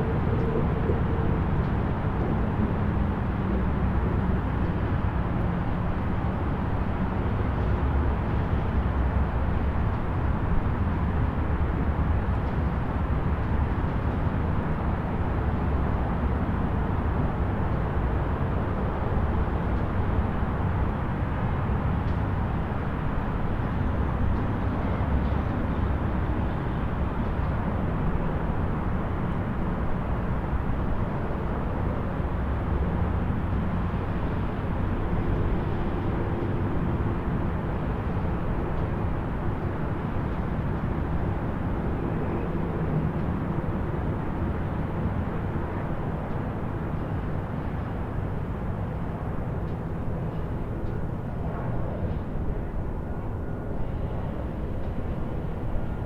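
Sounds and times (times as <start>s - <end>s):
distant highway traffic rumble: 0.0s - 56.0s.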